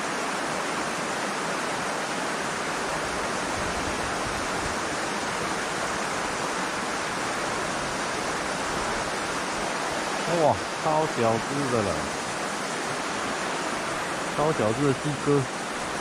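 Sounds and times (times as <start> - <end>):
river water running over stones: 0.0 - 16.0.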